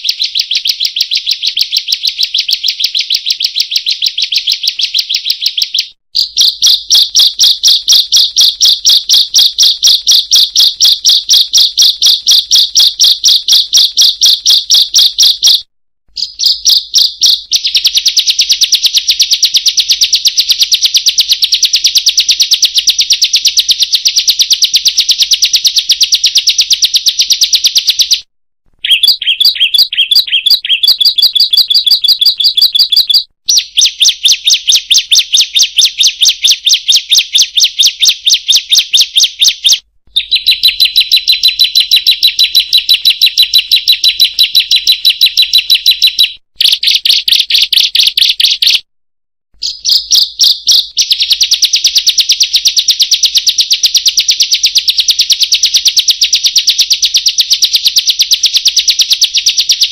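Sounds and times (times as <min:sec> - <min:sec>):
bird chirping rapidly: 0:00.0 - 0:48.8, 0:49.6 - 0:55.1.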